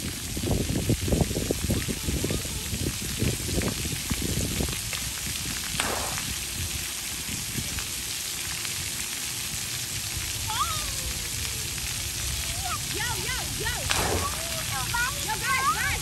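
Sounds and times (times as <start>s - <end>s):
droplets pattering on wet ground: 0.0s - 16.0s
water gushing: 0.0s - 16.0s
water jets spraying: 0.0s - 16.0s.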